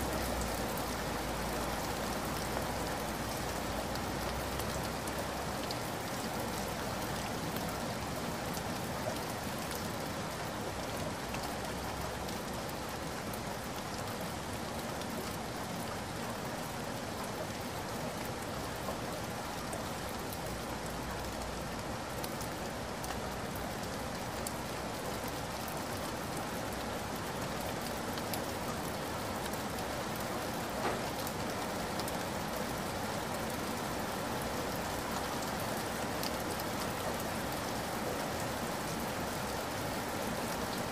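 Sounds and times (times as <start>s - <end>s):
stream trickling over gravel: 0.0s - 40.9s.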